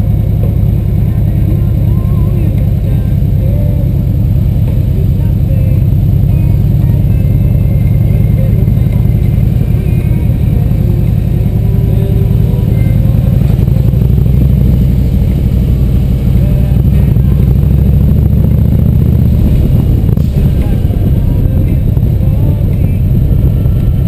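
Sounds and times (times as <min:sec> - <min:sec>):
motorcycle engine rumbling: 0:00.0 - 0:24.0.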